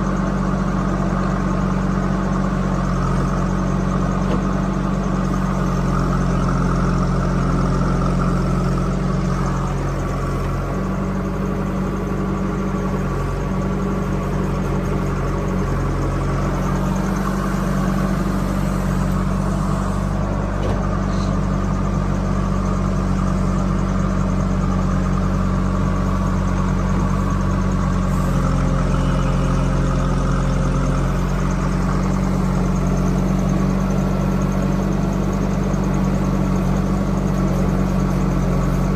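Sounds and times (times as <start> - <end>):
heavy machinery diesel engine running: 0.0 - 38.9.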